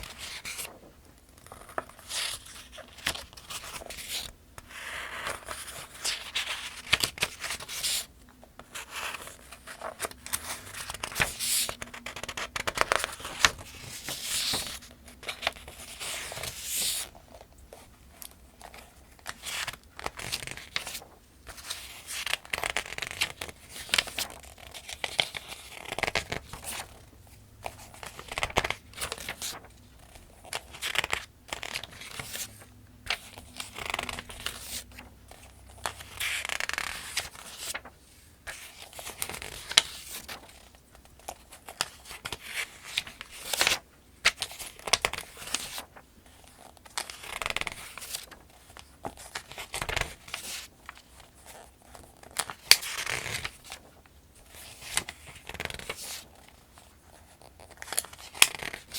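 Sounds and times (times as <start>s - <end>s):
paper pages turning: 0.0s - 0.8s, 1.4s - 27.0s, 27.6s - 58.9s.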